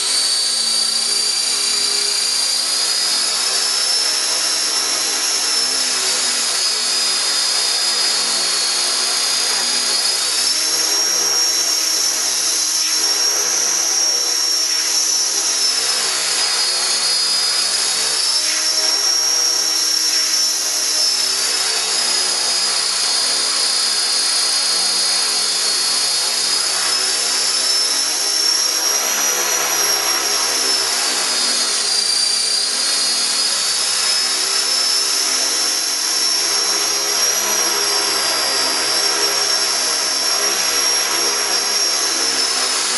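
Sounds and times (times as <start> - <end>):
motor and gears whining: 0.0 - 42.9.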